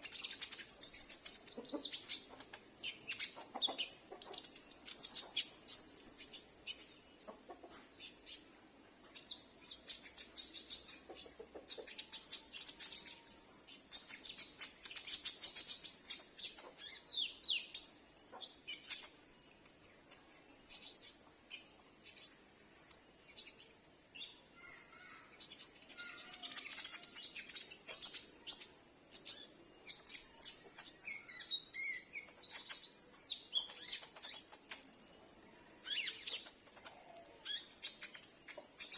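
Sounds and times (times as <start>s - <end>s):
bird chirps and trills: 0.0s - 8.5s, 9.1s - 38.9s.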